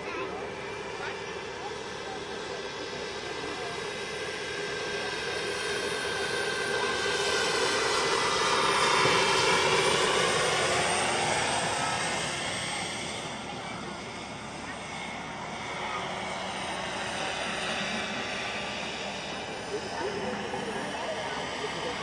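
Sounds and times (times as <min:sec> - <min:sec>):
model helicopter turbine whine: 0:00.0 - 0:22.0.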